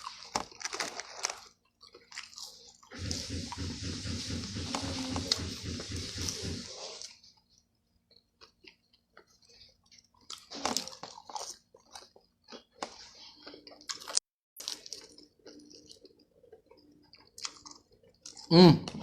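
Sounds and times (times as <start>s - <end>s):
person chewing and crunching: 0.0s - 4.6s, 8.1s - 19.0s.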